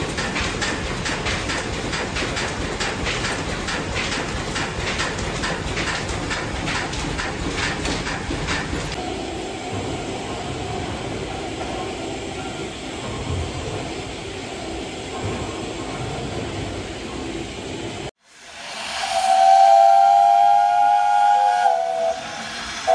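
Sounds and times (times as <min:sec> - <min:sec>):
steam engine rumbling: 0:00.0 - 0:22.9.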